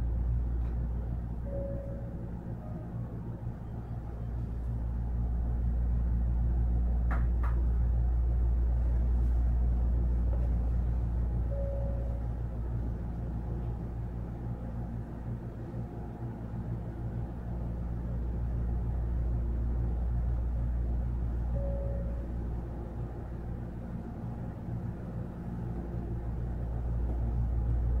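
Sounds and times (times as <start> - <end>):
train running rumble and hum: 0.0 - 28.0.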